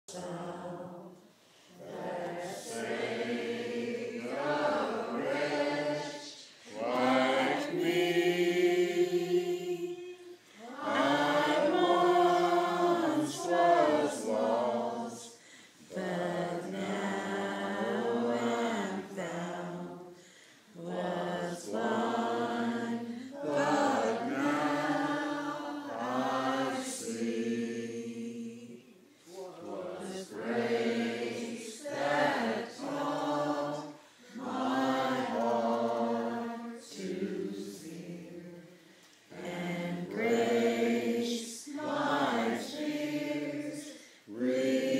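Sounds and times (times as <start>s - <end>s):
church choir singing: 0.1s - 44.9s.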